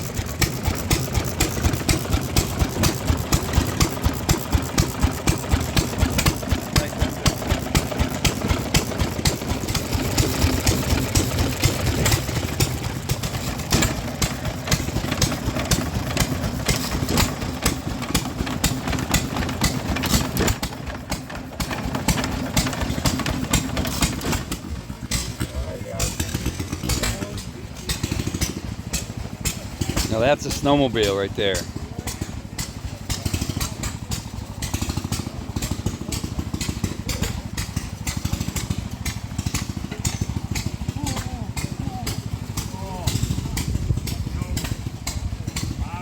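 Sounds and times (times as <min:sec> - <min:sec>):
old engine idling: 0:00.0 - 0:46.0.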